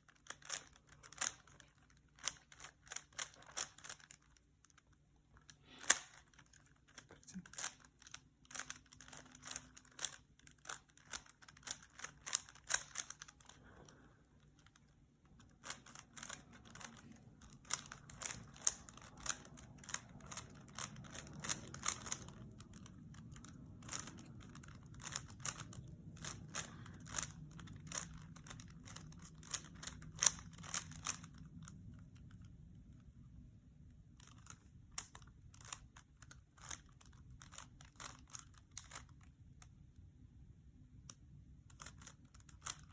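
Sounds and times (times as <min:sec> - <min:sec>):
puzzle cube plastic clicks: 0:00.0 - 0:33.0, 0:34.1 - 0:39.8, 0:41.0 - 0:42.9.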